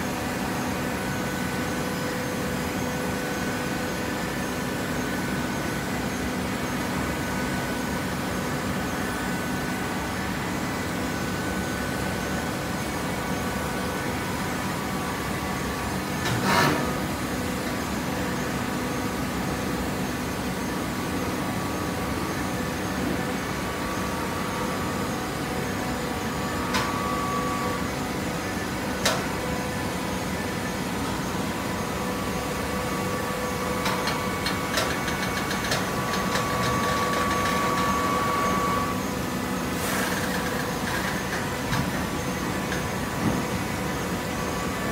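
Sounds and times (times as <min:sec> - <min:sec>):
hydraulic power unit humming: 0:00.0 - 0:44.9.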